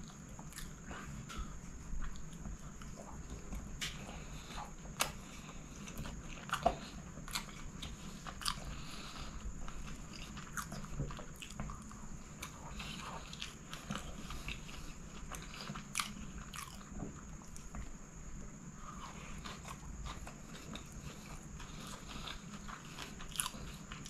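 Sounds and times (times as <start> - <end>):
close chewing of food: 0.0 - 24.0.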